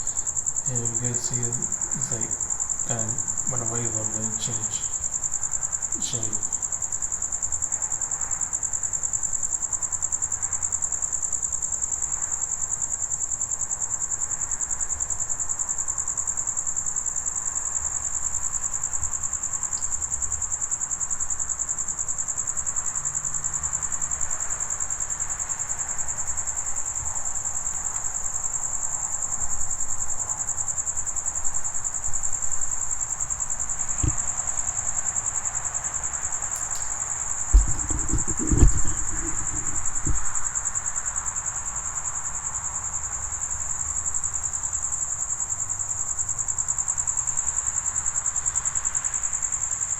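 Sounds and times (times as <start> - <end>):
cricket trilling: 0.0 - 49.9.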